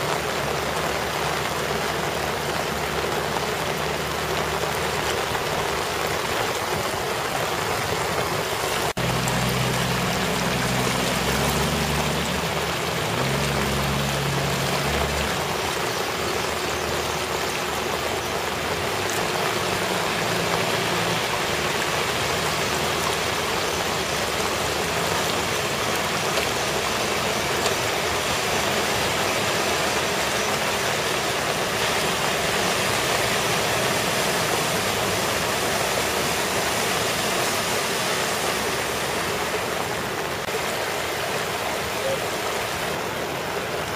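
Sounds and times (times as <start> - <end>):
cars splashing through deep water: 0.0 - 43.9
heavy rain rushing: 0.0 - 43.9.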